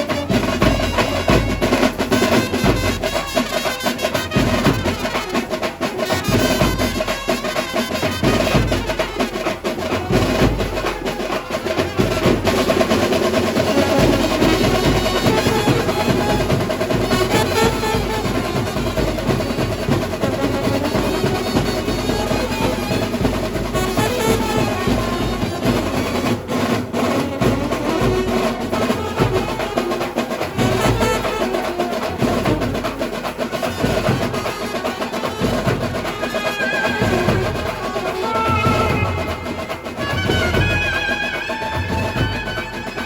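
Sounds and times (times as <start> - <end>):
dense drumming with rolls: 0.0 - 43.0
saxophones playing tune: 0.0 - 43.0.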